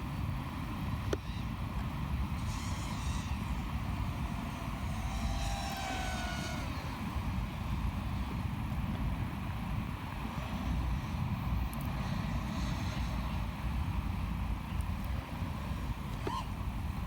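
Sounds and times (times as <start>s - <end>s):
drone motors whining: 1.0s - 17.0s.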